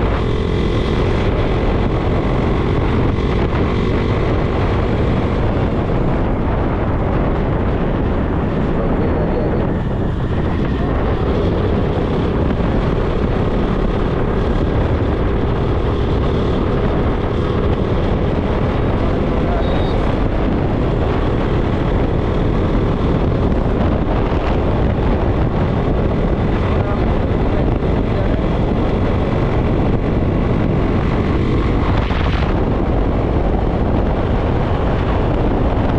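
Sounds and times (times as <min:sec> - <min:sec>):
motorcycle engine running: 0:00.0 - 0:35.9
wind rush on microphone: 0:00.0 - 0:35.9.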